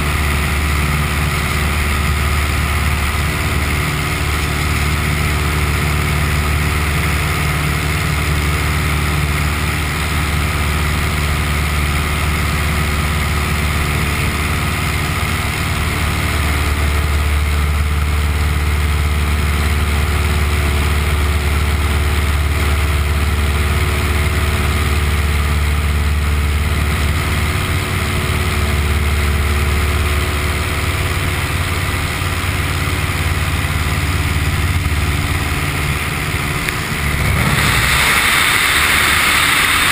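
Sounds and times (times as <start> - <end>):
small plane engine drone: 0.0 - 39.9.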